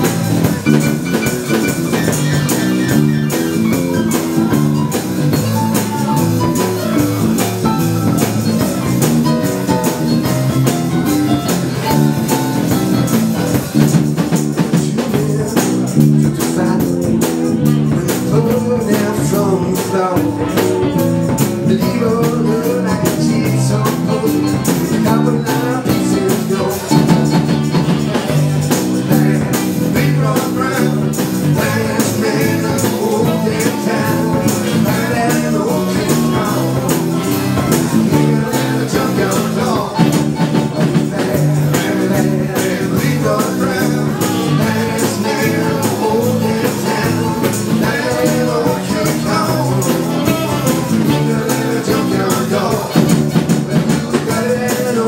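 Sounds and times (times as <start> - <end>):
live band playing rock and roll: 0.0 - 55.0.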